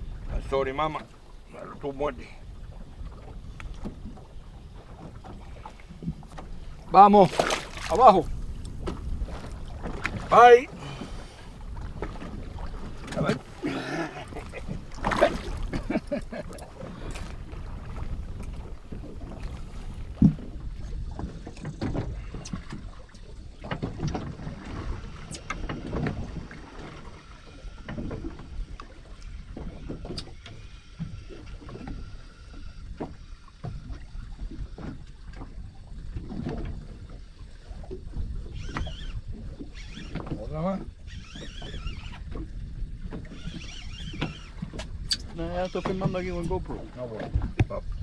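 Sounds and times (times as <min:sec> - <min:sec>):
water sloshing against boat hull: 0:00.0 - 0:48.0.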